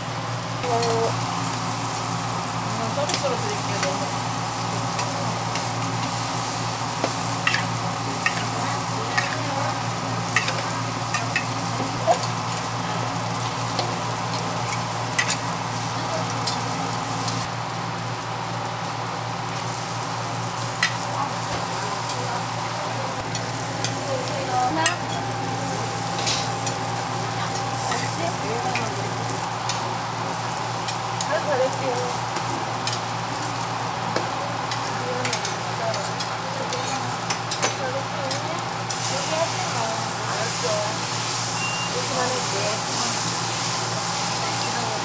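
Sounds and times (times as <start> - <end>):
pancakes sizzling in oil: 0.0 - 45.0
tongs and spatula scraping griddle: 0.6 - 17.5, 19.5 - 45.0.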